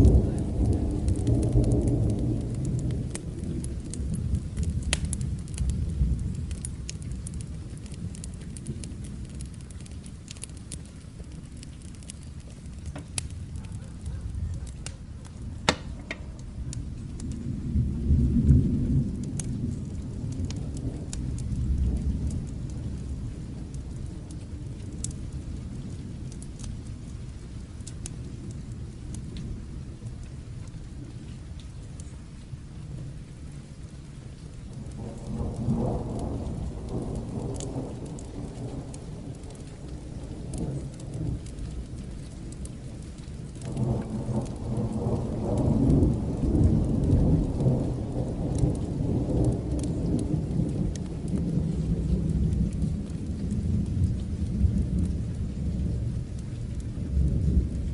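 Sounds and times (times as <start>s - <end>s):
rolling thunder: 0.0s - 31.3s, 34.3s - 57.9s
sharp crackles: 0.0s - 57.9s
steady rain: 0.0s - 57.9s.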